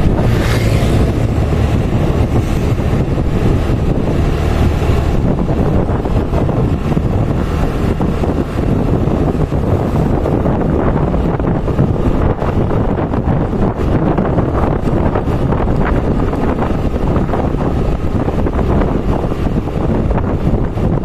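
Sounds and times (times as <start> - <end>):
motorcycle engine hum: 0.0 - 21.0
wind noise on microphone: 0.0 - 21.0.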